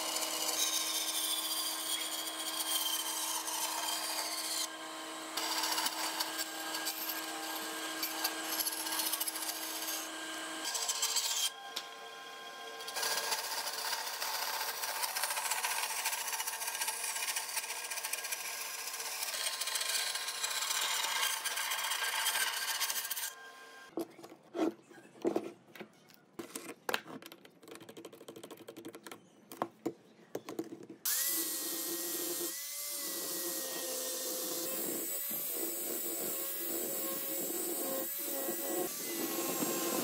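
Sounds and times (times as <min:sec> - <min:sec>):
power-tool motor whine: 0:00.0 - 0:23.9, 0:31.1 - 0:40.0.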